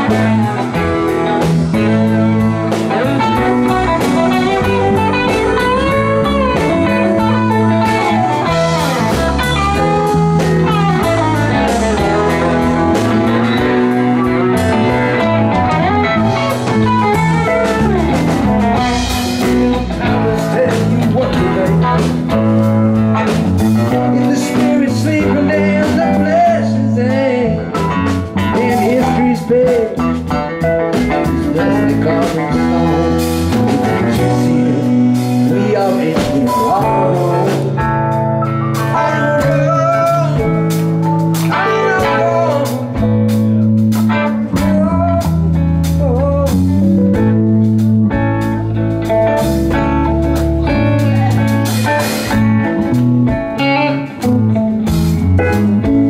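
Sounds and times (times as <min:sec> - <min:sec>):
electric guitar lead line: 0:00.0 - 0:56.0
live rock band playing: 0:00.0 - 0:56.0.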